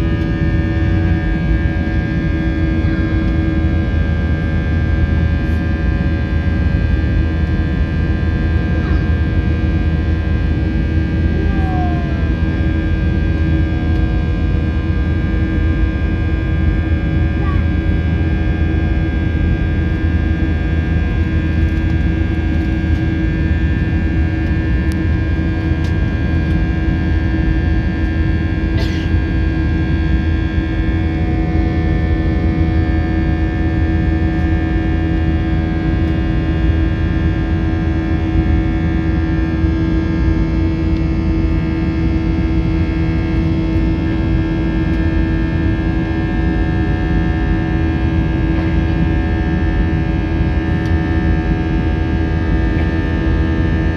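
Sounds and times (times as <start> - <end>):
jet engine drone in cabin: 0.0 - 53.9.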